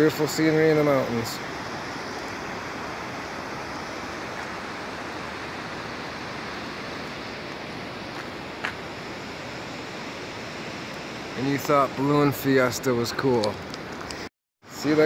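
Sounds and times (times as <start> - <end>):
road and wind noise in vehicle: 0.0 - 15.0.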